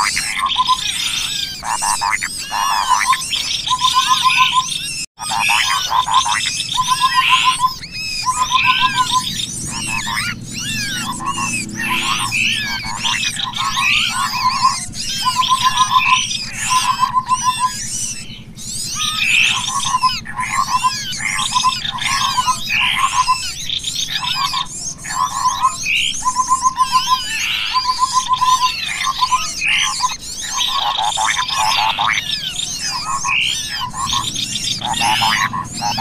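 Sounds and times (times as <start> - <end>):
high chirps and whistles: 0.0 - 36.0
rapid low bird trill: 0.0 - 36.0
songbirds chorus: 0.0 - 36.0.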